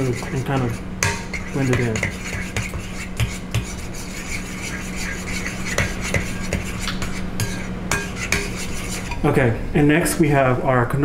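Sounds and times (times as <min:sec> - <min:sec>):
spoon stirring thick batter: 0:00.0 - 0:09.3.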